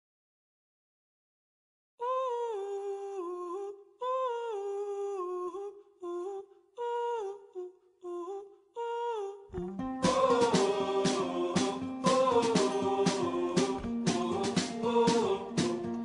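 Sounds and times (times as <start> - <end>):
person humming a melody: 2.0 - 6.4, 7.0 - 16.0.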